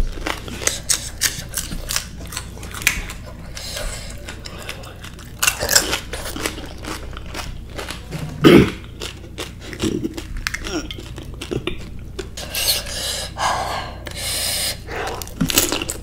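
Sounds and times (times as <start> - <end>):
crunchy chewing: 0.0 - 13.3.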